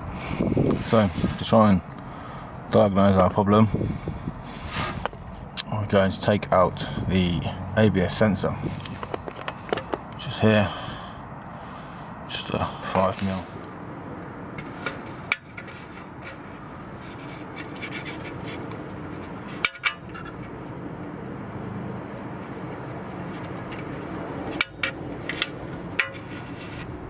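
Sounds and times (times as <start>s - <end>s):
low background noise: 0.0s - 27.0s.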